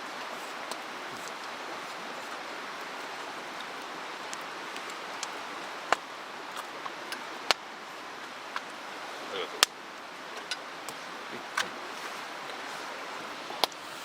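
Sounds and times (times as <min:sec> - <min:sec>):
campfire crackling and popping: 0:00.0 - 0:14.0
mountain stream rushing: 0:00.0 - 0:14.0.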